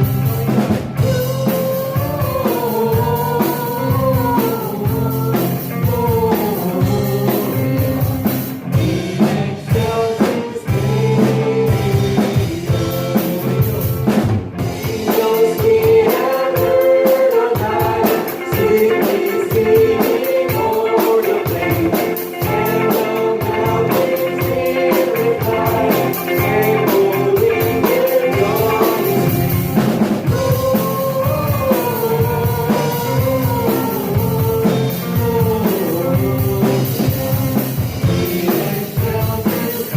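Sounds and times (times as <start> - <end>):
people singing: 0.0 - 39.9
worship band playing: 0.0 - 39.9.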